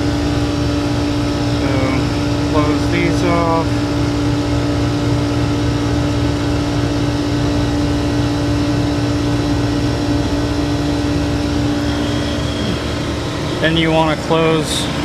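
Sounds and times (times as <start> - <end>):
compressor humming: 0.0 - 15.0.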